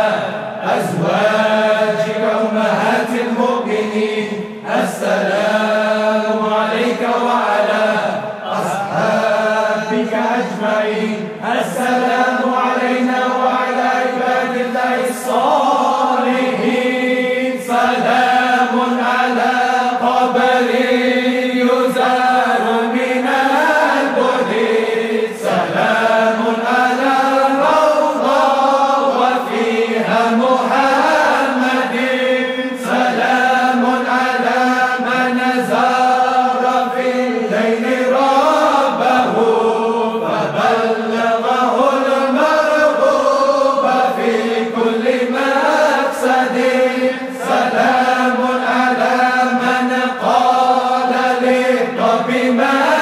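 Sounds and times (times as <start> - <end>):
melodic devotional chanting: 0.0 - 53.0.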